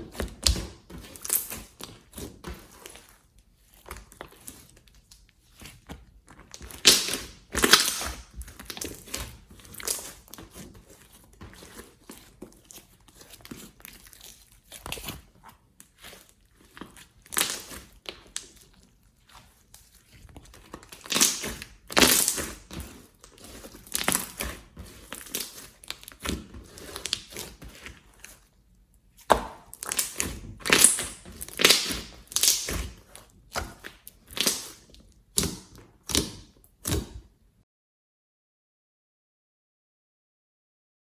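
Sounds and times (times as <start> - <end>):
slime squelching and crackling: 0.0 - 28.5, 29.1 - 37.1.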